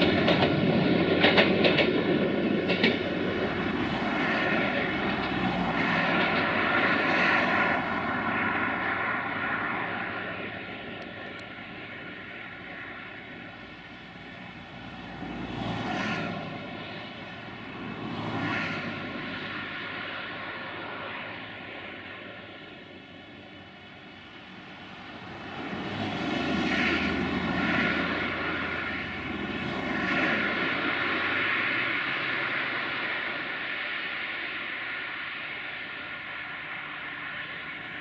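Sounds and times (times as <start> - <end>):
diesel locomotive engine drone: 0.0 - 38.0
train wheel noise: 0.0 - 38.0.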